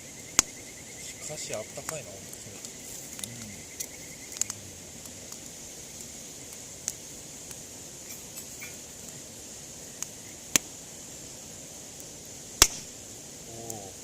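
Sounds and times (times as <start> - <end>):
campfire wood crackling: 0.0 - 14.0
steady high hiss: 0.0 - 14.0.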